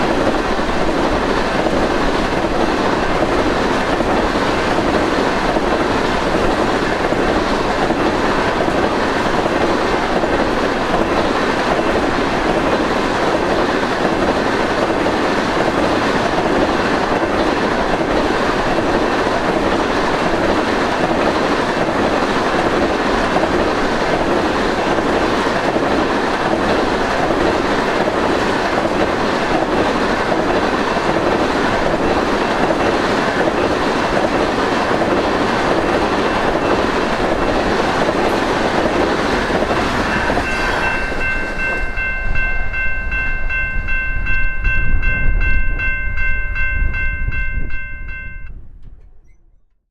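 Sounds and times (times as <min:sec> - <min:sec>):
freight train wheels rumbling and rattling: 0:00.0 - 0:49.7.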